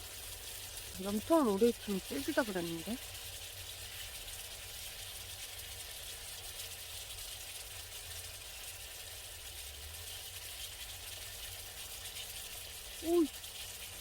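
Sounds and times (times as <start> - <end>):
meat sizzling on a grill: 0.0 - 14.0.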